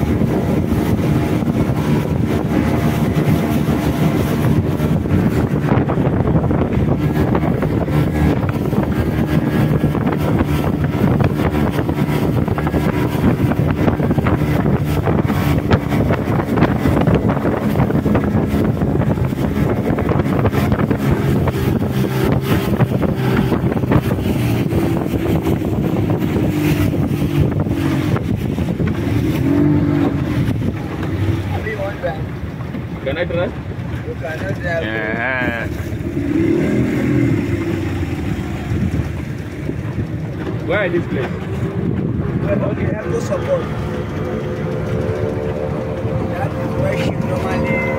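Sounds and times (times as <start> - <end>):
boat engine running: 0.0 - 47.9
water against hull: 0.0 - 47.9
wind on microphone: 0.0 - 47.9.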